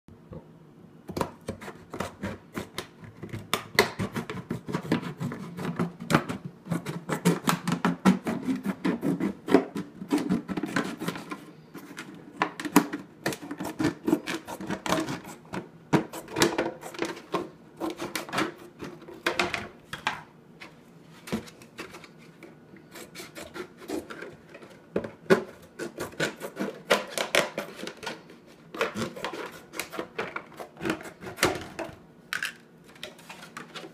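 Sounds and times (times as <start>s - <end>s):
scissors cutting plastic: 1.2s - 19.0s, 22.9s - 33.9s.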